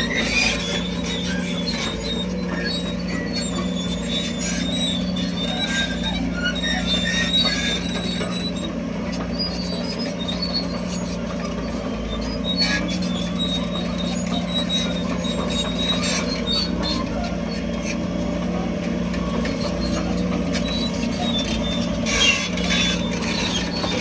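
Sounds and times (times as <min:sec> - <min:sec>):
heavy diesel machine running: 0:00.0 - 0:24.0
metallic squeaks and clanks: 0:00.0 - 0:24.0.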